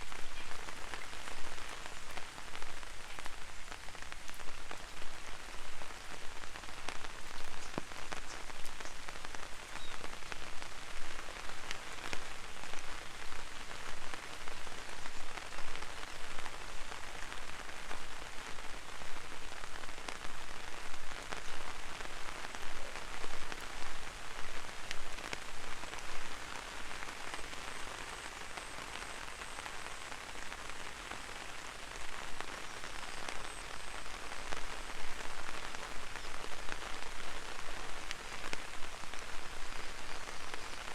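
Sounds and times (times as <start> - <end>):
rain drops hitting umbrella: 0.0 - 40.9
steady rain hiss: 0.0 - 40.9.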